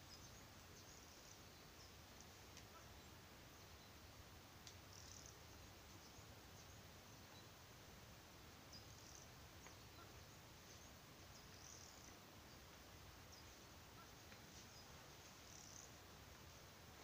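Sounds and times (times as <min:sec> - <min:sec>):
faint background hiss: 0:00.0 - 0:17.0
small birds chirping: 0:00.0 - 0:17.0.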